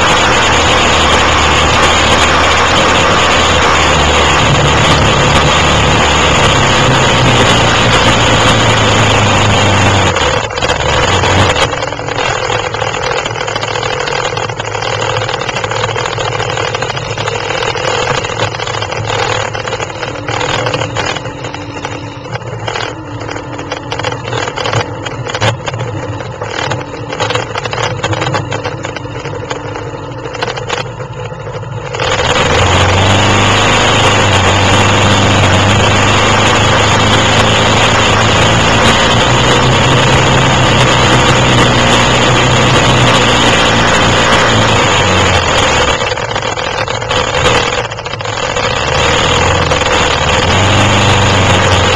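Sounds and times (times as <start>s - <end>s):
quad engines running: 0.0s - 51.9s.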